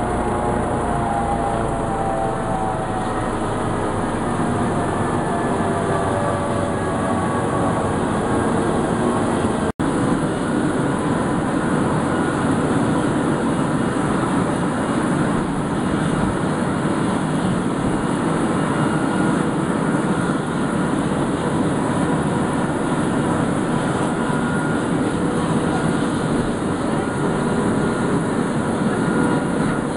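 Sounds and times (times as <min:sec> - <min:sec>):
helicopter turbines and rotors: 0:00.0 - 0:29.9.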